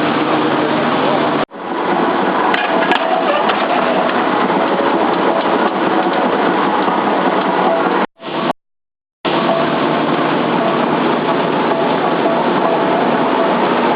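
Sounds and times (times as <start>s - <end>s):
forging machinery running: 0.0s - 8.5s, 9.3s - 13.9s.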